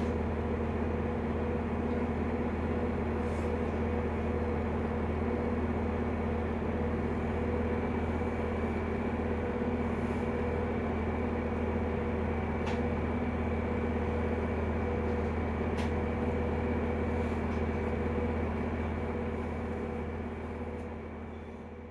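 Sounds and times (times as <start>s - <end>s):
standing train mechanical hum: 0.0s - 21.9s.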